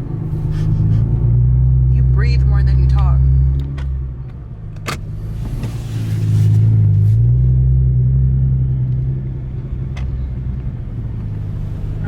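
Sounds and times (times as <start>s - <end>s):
car engine revving inside cabin: 0.0s - 12.0s.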